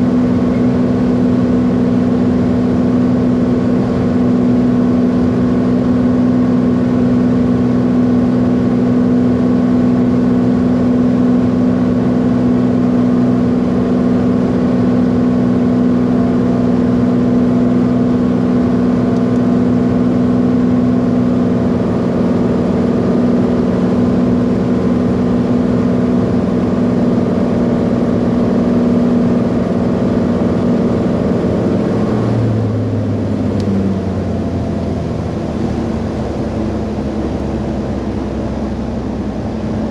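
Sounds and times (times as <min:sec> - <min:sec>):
piston airplane engine droning: 0:00.0 - 0:39.9.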